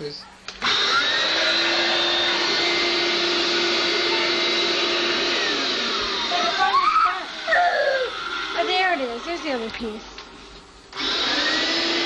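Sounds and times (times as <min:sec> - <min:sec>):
vacuum cleaner running: 0:00.5 - 0:12.0.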